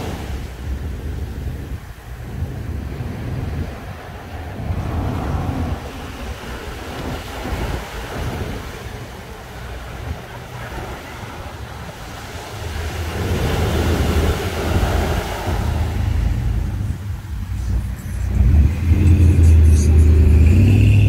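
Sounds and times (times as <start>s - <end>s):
waves breaking on beach: 0.0s - 21.0s
wind buffeting microphone: 0.0s - 21.0s.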